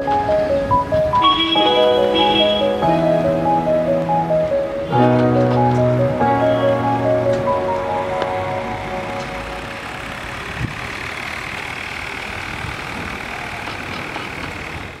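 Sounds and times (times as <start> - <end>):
tyres rolling on asphalt: 0.0 - 15.0.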